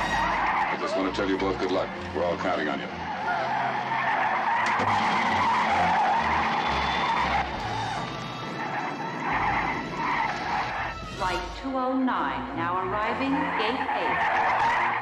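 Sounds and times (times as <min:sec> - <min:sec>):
airliner tyres screeching: 0:00.0 - 0:11.4, 0:13.0 - 0:15.0.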